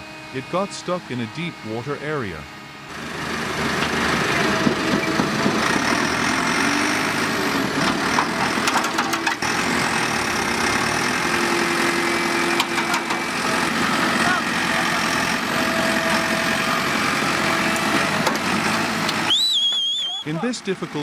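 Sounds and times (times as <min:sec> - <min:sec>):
diesel engine running loudly: 0:00.0 - 0:19.6, 0:20.2 - 0:21.0.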